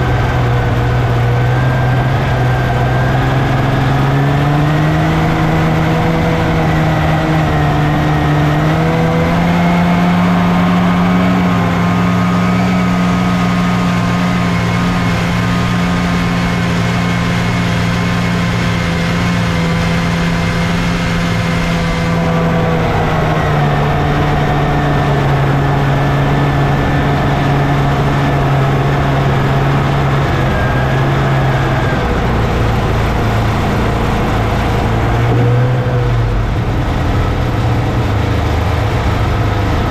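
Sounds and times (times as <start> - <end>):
snowmobile engine under load: 0.0 - 39.9.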